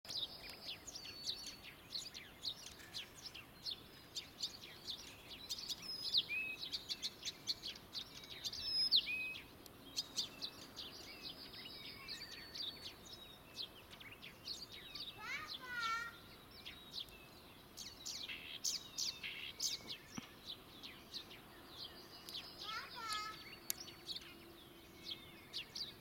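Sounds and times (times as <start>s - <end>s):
songbirds chirping: 0.1s - 26.0s.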